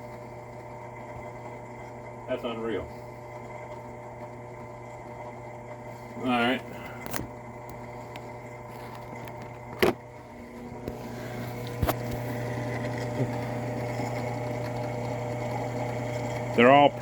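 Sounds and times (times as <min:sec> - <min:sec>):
drill press motor running: 0:00.0 - 0:17.0.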